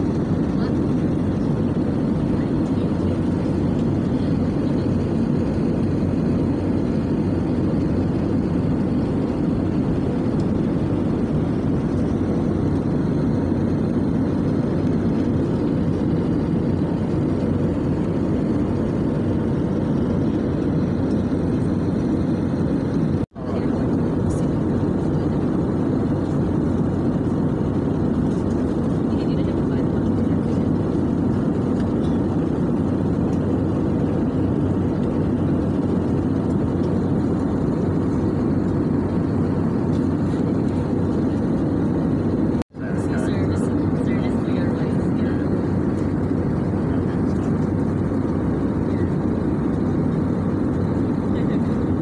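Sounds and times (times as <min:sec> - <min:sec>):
airliner cabin engine noise: 0:00.0 - 0:52.0.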